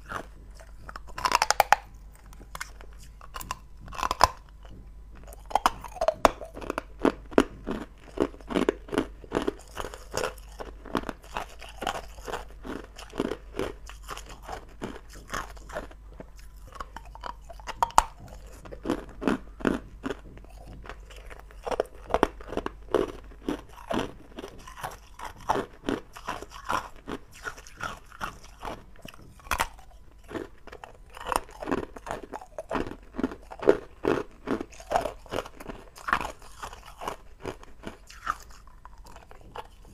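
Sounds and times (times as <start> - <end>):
ice cubes crunching in mouth: 0.0 - 39.9.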